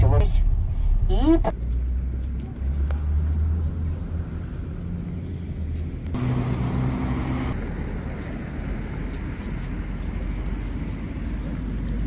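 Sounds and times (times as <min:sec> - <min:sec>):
car engine rumble: 0:00.0 - 0:12.0
passing vehicle engine hum: 0:00.0 - 0:12.0
street noise: 0:00.0 - 0:12.0.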